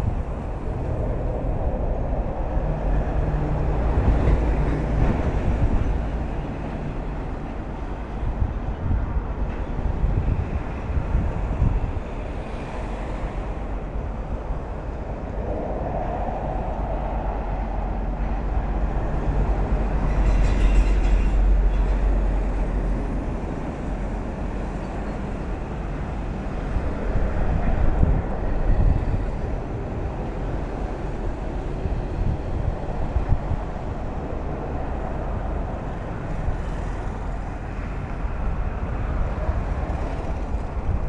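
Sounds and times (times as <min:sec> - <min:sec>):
vehicle and road noise rumble: 0:00.0 - 0:41.0.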